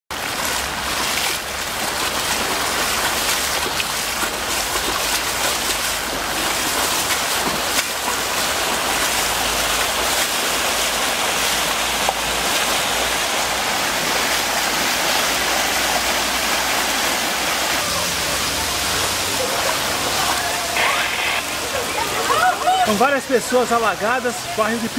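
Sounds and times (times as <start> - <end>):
floodwater rushing: 0.1 - 24.9.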